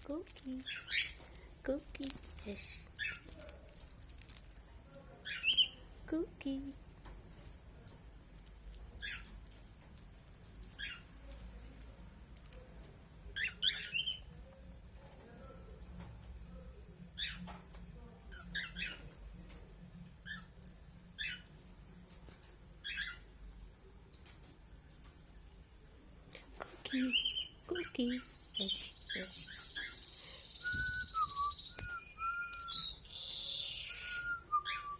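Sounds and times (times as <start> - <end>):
small birds chirping: 0.0 - 8.0, 8.7 - 15.3, 16.6 - 19.6, 20.2 - 34.9.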